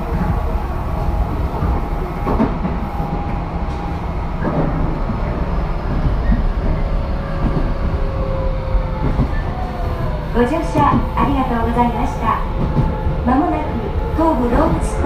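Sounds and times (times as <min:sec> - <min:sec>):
rail-joint clacks: 0:00.0 - 0:15.0
train wheels rumbling on rail: 0:00.0 - 0:15.0.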